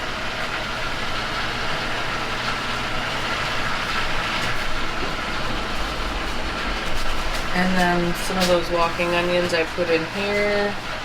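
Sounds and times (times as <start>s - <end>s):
fan or motor humming: 0.0s - 11.0s.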